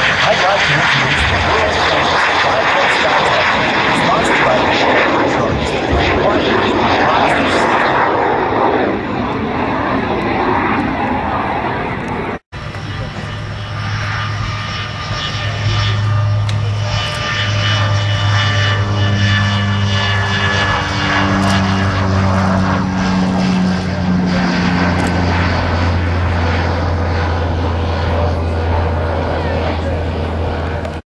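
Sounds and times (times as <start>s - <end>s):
propeller airplane engine drone: 0.0s - 31.0s.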